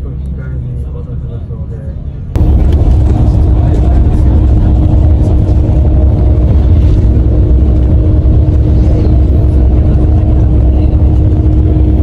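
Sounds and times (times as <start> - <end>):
bus engine and road rumble: 0.0 - 12.0
faint steady hum: 2.1 - 12.0.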